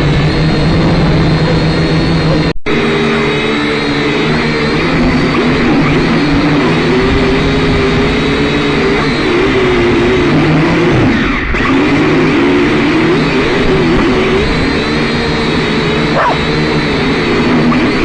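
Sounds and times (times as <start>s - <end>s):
quadcopter propellers whining: 0.0s - 18.0s.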